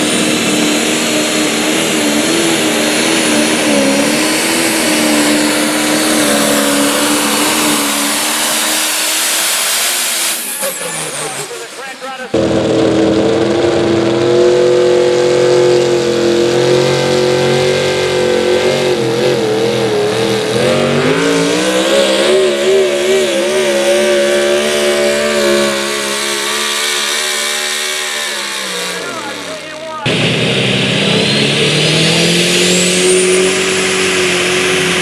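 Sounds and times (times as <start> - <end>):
truck engine at high revs: 0.0 - 35.0.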